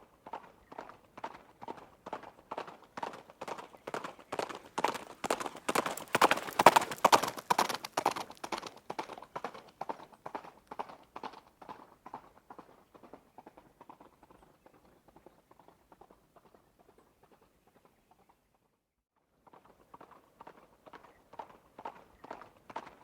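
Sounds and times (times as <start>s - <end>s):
horse hoofbeats: 0.0s - 18.4s, 19.5s - 23.0s.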